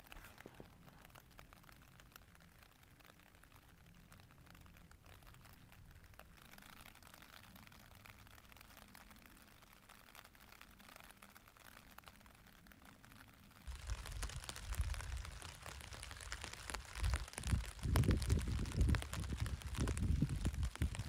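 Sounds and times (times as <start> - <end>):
light rain ticking on tent: 0.0 - 21.0.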